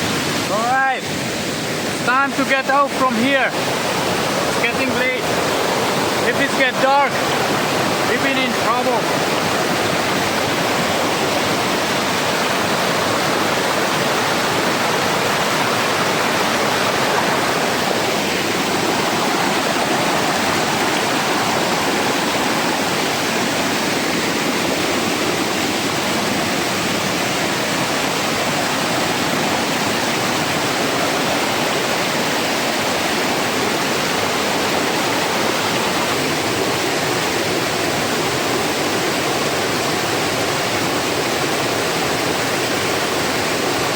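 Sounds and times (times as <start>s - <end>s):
river water rushing over rocks: 0.0s - 43.9s.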